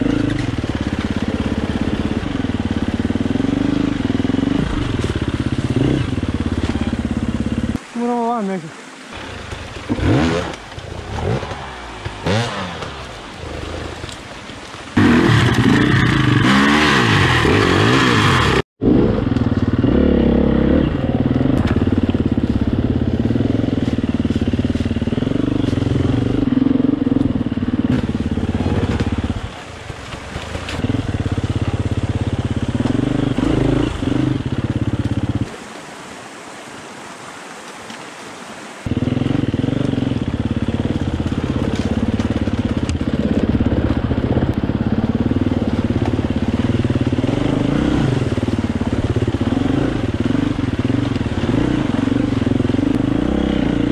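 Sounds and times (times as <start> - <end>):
motorcycle engine revving: 0.0 - 7.8, 9.1 - 14.2, 14.9 - 35.6, 38.8 - 53.9.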